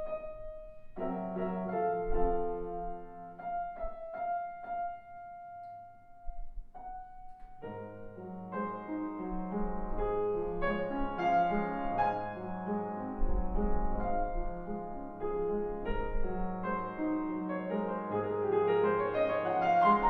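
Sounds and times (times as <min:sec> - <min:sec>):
solo classical piano: 0:00.0 - 0:20.0.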